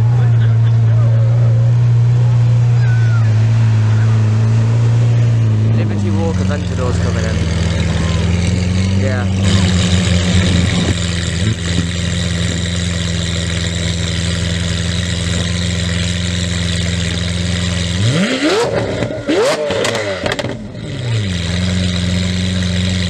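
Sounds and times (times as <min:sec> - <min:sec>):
car engine idling and revving: 0:00.0 - 0:23.0
exhaust cracks: 0:00.0 - 0:23.0.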